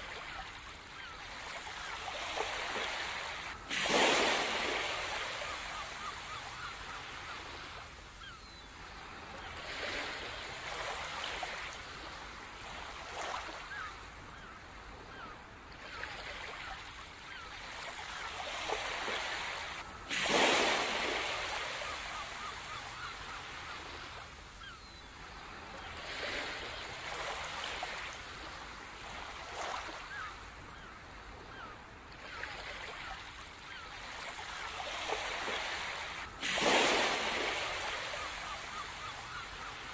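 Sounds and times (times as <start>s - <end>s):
waves washing onto beach: 0.0s - 14.5s, 15.1s - 30.4s, 31.0s - 39.9s
faint bird calls: 0.0s - 39.9s.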